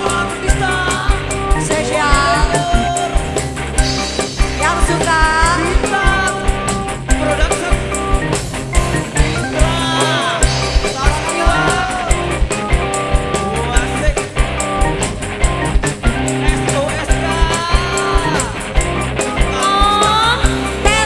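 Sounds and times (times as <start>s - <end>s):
bass: 0.0s - 21.0s
fast drum beat: 0.0s - 21.0s
held chords: 0.0s - 21.0s.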